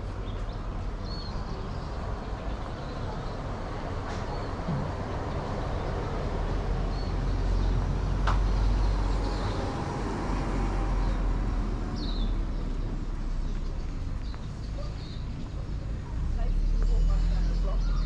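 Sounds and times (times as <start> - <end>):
passing vehicle rumble: 0.0 - 18.0.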